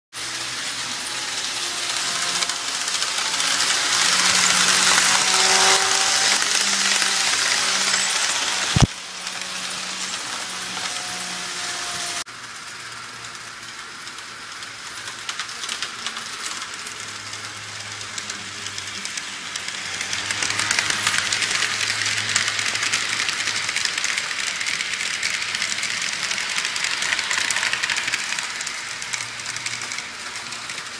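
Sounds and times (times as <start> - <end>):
model train wheels clattering: 0.2 - 30.9.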